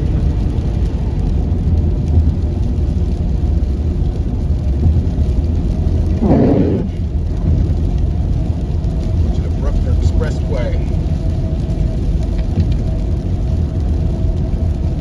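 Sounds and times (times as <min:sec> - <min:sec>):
car tyres and engine rumbling: 0:00.0 - 0:15.0.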